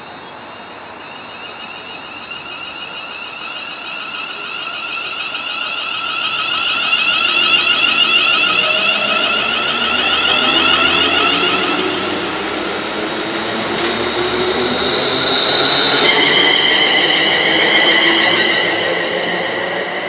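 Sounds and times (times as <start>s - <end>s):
electric train motor whine: 0.4s - 20.0s.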